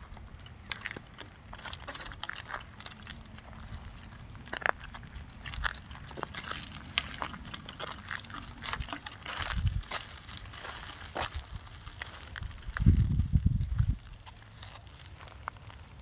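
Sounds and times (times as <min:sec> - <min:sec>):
low rumble: 0:00.0 - 0:14.3
grass rustling and crackling: 0:00.0 - 0:16.0.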